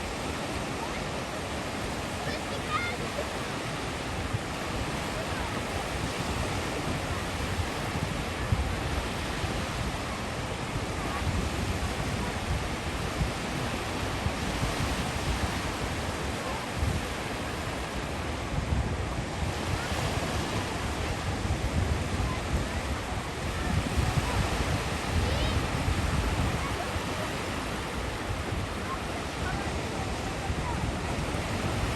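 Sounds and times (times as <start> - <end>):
sea waves breaking on shore: 0.0 - 31.9
wind buffeting microphone: 0.0 - 31.9.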